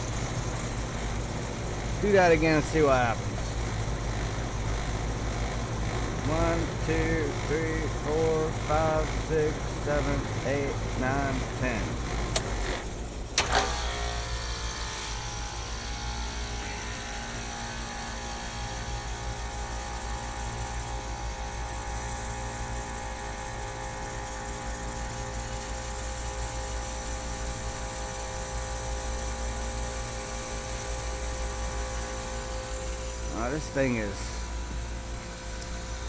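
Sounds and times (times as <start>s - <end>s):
heat pump humming: 0.0s - 36.0s.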